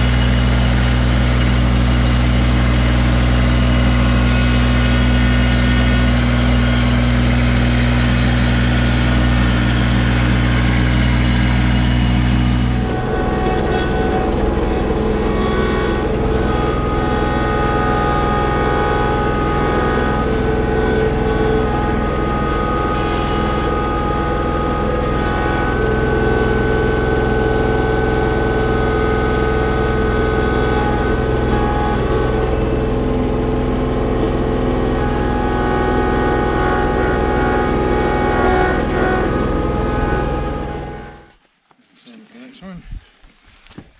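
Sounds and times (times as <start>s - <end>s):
hydraulic whine: 0.0s - 41.4s
tractor diesel engine running: 0.0s - 41.4s.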